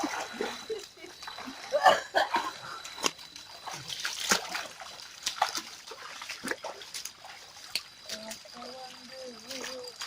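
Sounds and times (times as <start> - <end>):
water splashing in a river: 0.0 - 10.0.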